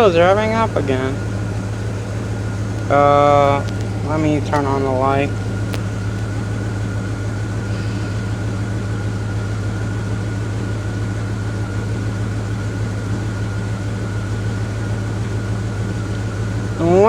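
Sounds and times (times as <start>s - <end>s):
high whine: 0.0s - 17.0s
truck engine idling: 0.0s - 17.0s.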